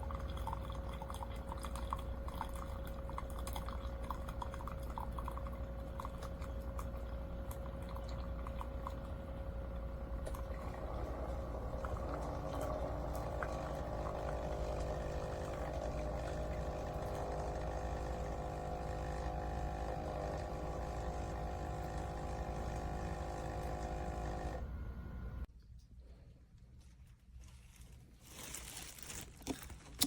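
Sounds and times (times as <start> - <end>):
coffee maker pump hum: 0.0 - 25.5.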